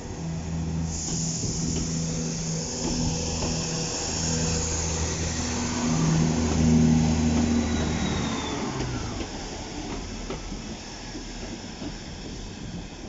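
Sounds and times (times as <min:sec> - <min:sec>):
diesel train engines pulling away: 0:00.0 - 0:13.0.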